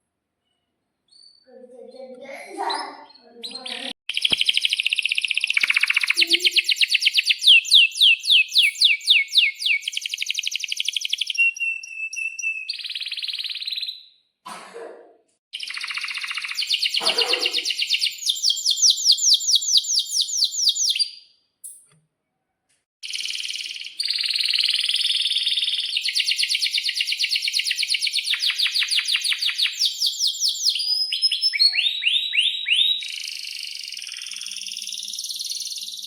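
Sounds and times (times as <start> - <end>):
canary singing: 1.1 - 14.2, 15.6 - 21.8, 23.0 - 36.0.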